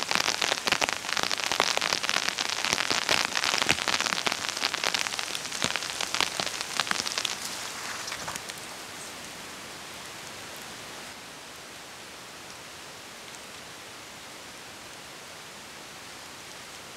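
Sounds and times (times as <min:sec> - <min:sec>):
rain falling in forest: 0:00.0 - 0:16.9.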